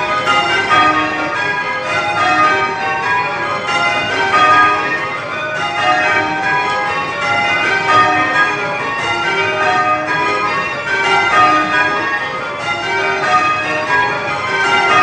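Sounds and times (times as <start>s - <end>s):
church bells change ringing: 0.0s - 15.0s.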